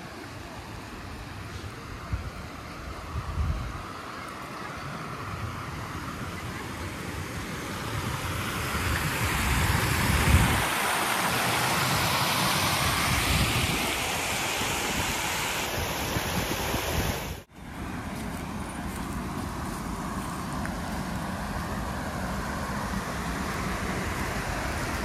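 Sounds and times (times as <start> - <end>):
water rushing down a cascade: 0.0 - 25.0
wind rumbling on microphone: 0.7 - 4.0, 4.8 - 25.0.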